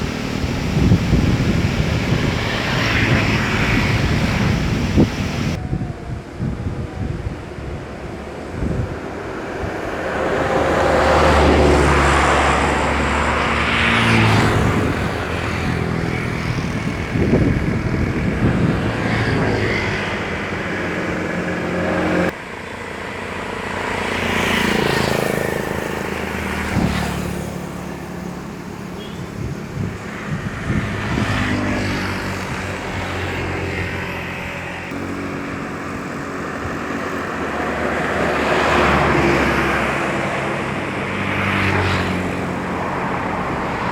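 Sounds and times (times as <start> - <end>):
vehicle engines passing by: 0.0 - 43.9.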